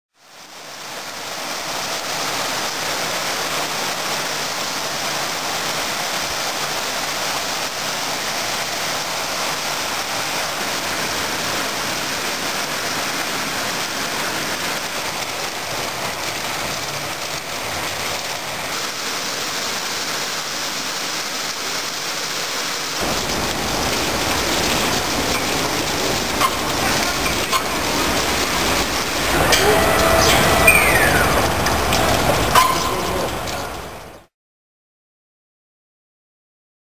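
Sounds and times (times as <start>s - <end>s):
heavy rain on trees and leaves: 0.1s - 34.3s
rainwater splashing into water: 0.2s - 34.3s.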